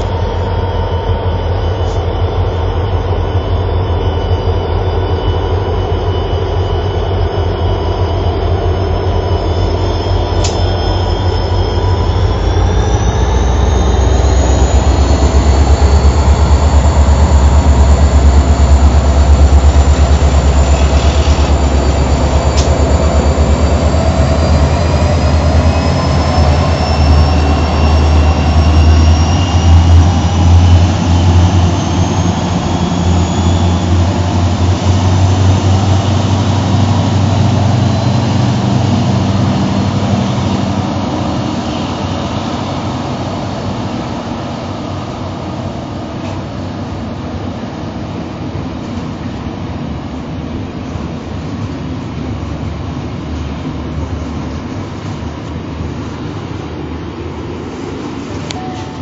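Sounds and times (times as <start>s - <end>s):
locomotive engines throbbing: 0.0s - 59.0s.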